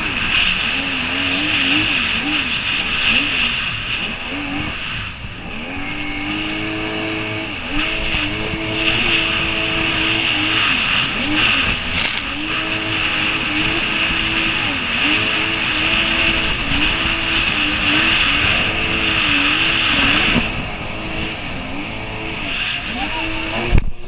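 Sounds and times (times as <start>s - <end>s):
jet ski engine: 0.0s - 24.0s
rush of wind and water: 0.0s - 24.0s.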